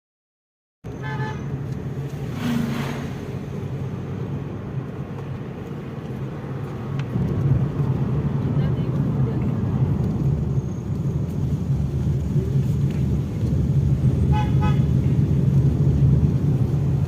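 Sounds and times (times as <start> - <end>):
vehicle running on road: 0.8 - 17.0.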